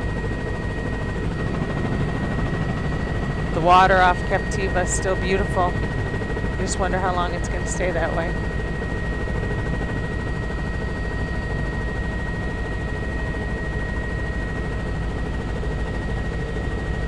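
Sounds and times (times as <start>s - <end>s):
high engine whine: 0.0s - 14.8s
helicopter rotor beat: 0.0s - 17.0s.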